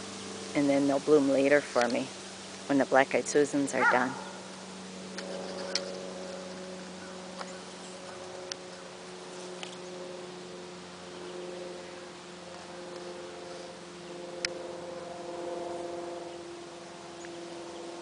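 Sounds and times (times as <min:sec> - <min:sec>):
hum of held tones: 0:00.0 - 0:18.0.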